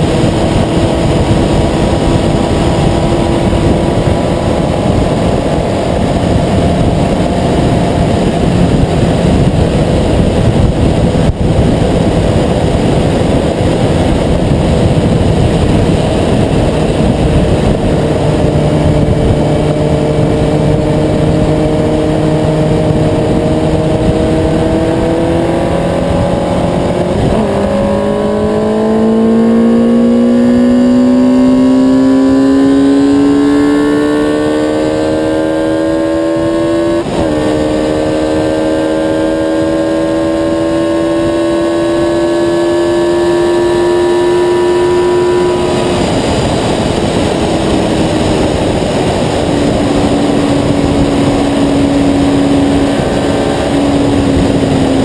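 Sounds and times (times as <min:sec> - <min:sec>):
motorcycle engine whine: 0:00.0 - 0:55.0
wind rush over microphone: 0:00.0 - 0:55.0.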